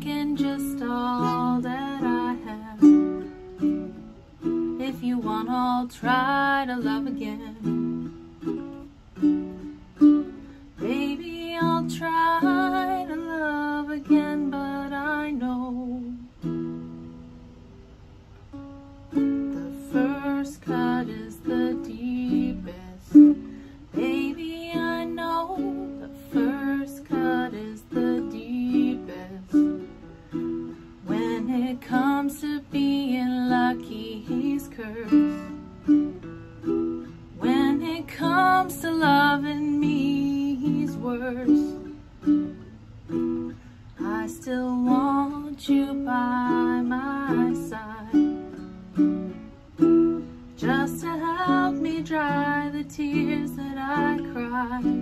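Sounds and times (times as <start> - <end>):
woman singing: 0.0 - 16.6, 19.1 - 36.2, 37.0 - 42.6, 43.2 - 55.0
ukulele chords: 0.0 - 55.0.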